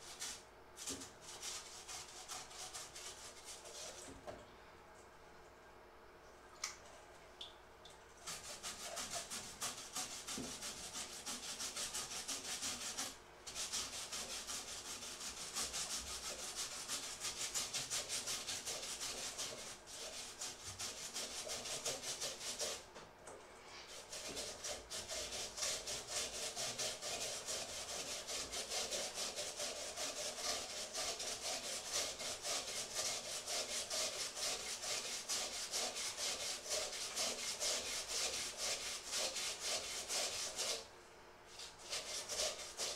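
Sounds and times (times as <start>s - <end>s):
potato rasping on metal grater: 0.0s - 4.0s, 8.2s - 22.8s, 23.9s - 40.9s, 41.5s - 42.9s.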